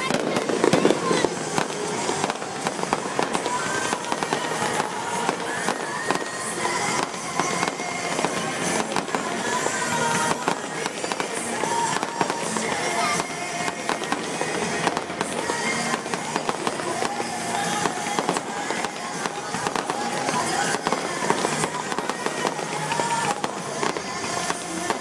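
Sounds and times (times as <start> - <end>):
fireworks bangs and pops: 0.0 - 25.0.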